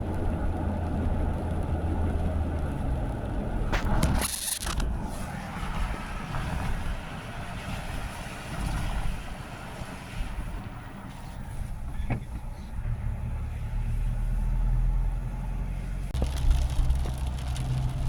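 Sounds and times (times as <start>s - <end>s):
car driving on wet road: 0.0s - 18.0s.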